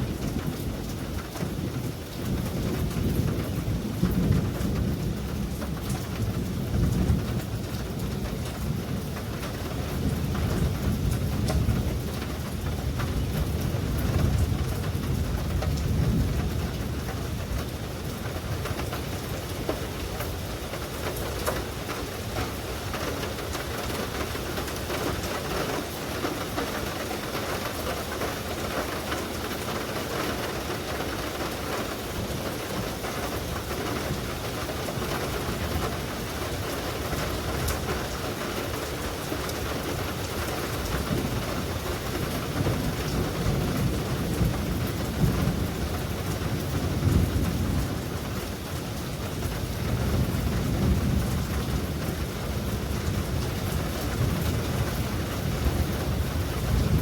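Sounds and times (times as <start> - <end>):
deep thunder rumbles: 0.0 - 57.0
steady rain hissing: 0.0 - 57.0.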